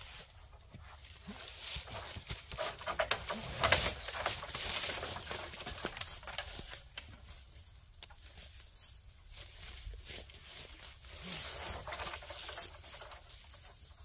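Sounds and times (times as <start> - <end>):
leaves crunching underfoot: 0.0 - 13.9.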